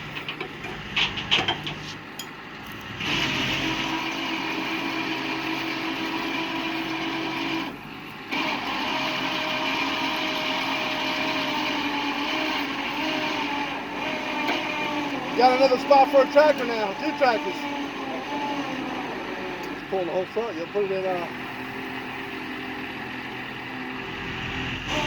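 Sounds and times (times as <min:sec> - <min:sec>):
winch motor whining: 0:00.0 - 0:25.0.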